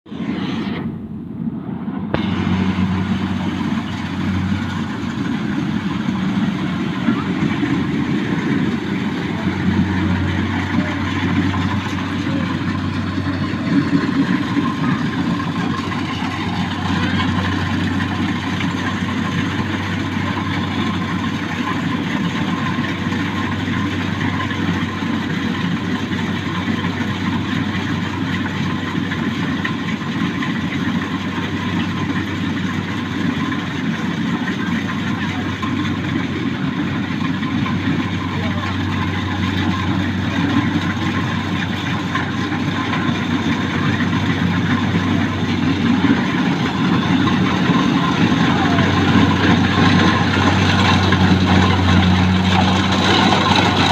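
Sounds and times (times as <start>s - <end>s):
harvester engine droning: 0.0s - 53.9s.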